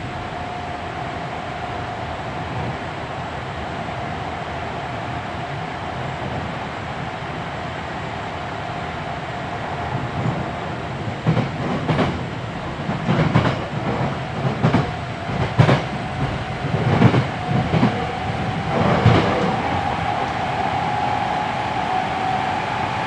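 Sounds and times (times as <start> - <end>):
train interior drone: 0.0 - 23.0.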